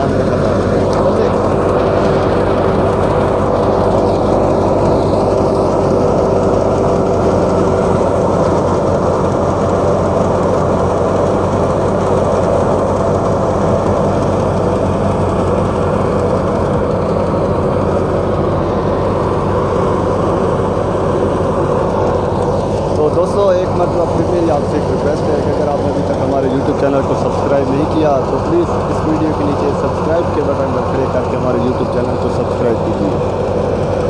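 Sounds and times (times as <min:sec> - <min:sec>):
thresher mechanical drone: 0:00.0 - 0:34.0
tractor engine hum: 0:00.0 - 0:34.0.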